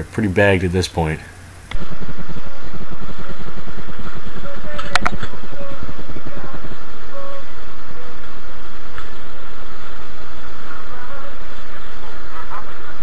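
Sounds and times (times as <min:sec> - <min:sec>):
water noise: 0:00.0 - 0:13.0
wind: 0:00.0 - 0:13.0
boat engine throbbing: 0:01.8 - 0:13.0.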